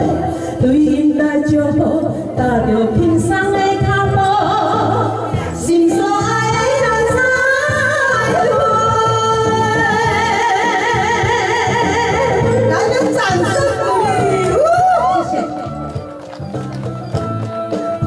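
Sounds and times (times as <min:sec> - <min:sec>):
two women singing: 0:00.0 - 0:15.5
amplified backing music: 0:00.0 - 0:18.0.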